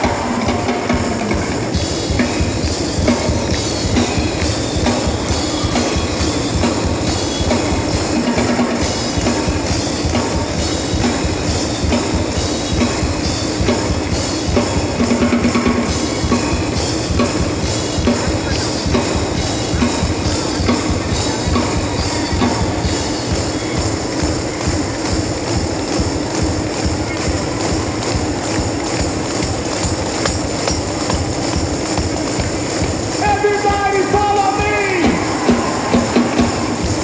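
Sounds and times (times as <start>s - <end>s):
amplified drum kit beat: 0.0s - 37.0s.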